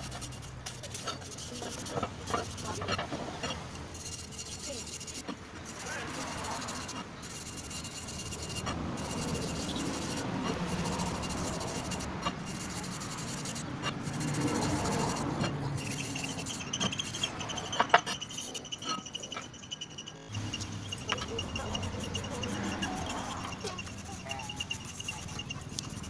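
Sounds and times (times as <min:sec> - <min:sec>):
rasping abrasion on brake part: 0:00.0 - 0:26.0.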